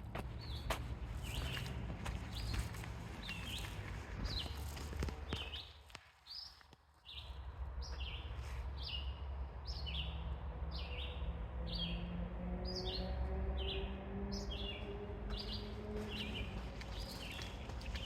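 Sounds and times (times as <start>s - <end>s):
small birds chirping: 0.3s - 12.0s, 12.6s - 18.0s.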